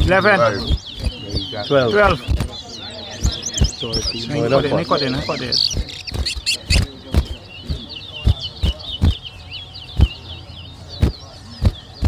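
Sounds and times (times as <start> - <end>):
finch singing: 0.0 - 12.0.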